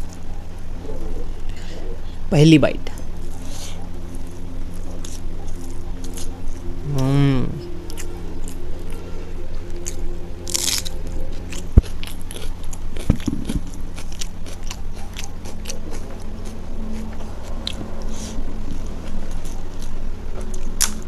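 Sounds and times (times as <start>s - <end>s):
person chewing food: 3.0s - 7.0s, 7.7s - 21.0s.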